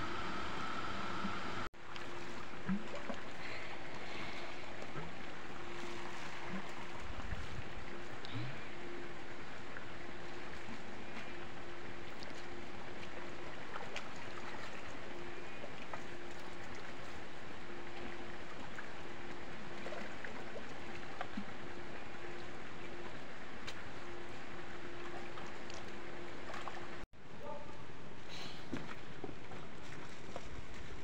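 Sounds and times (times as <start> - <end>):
water pump hum: 0.0 - 27.0
water splashes: 0.1 - 27.0.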